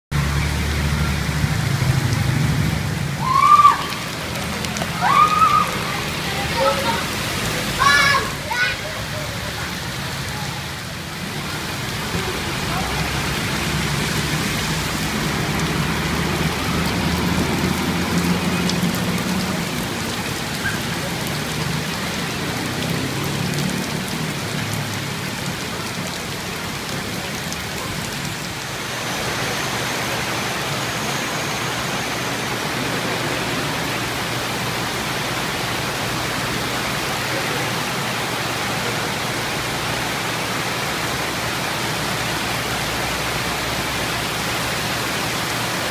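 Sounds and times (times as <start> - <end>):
heavy rain pouring: 0.1 - 45.9.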